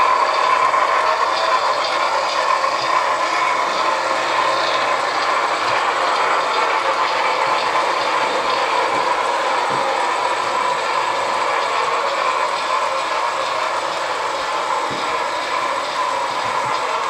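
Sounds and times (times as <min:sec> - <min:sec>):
model train wheels rolling: 0:00.0 - 0:17.0.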